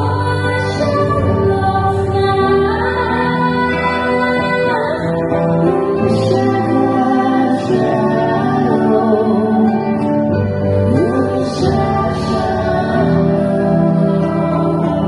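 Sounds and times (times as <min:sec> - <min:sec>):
bass line: 0:00.0 - 0:15.0
guitar: 0:00.0 - 0:15.0
person singing lead vocal: 0:00.0 - 0:15.0.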